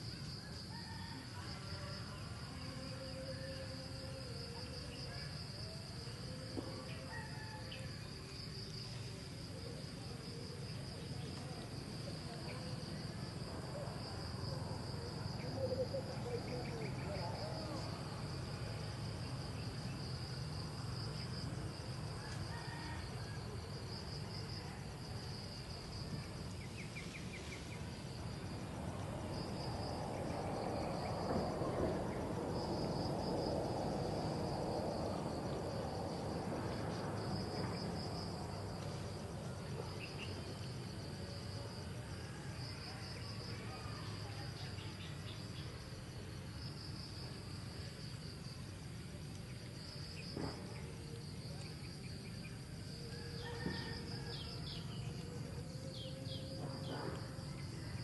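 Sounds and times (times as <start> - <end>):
insect chorus trilling: 0.0 - 58.0.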